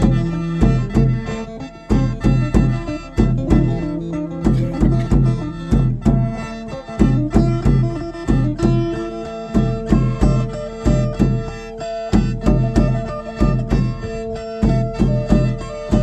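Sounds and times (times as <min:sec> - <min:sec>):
plucked lute: 0:00.0 - 0:16.0.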